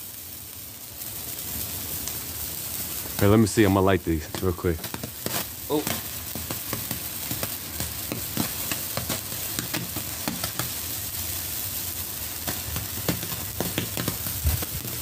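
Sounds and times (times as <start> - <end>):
sparklers fizzing and crackling: 0.0 - 15.0.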